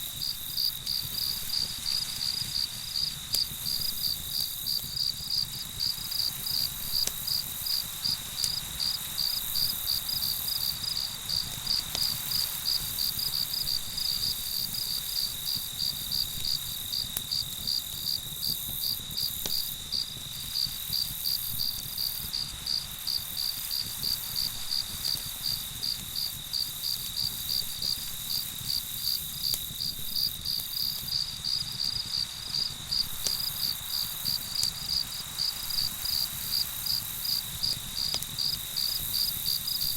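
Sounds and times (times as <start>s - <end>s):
crickets chirping: 0.0s - 39.9s
high insect trill: 0.0s - 39.9s.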